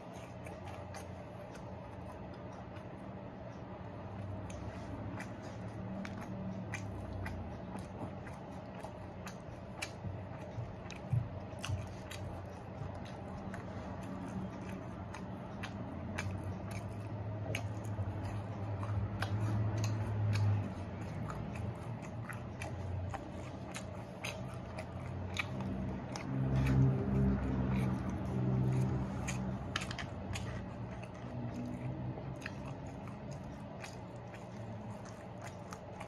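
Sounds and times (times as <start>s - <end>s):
chewing and lip-smacking: 0.0s - 36.0s
low steady hum: 0.0s - 36.0s.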